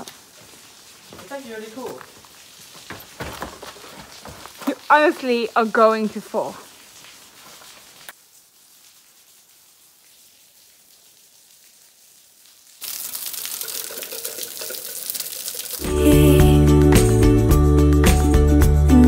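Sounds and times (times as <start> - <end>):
water falling and splashing: 0.0 - 17.3.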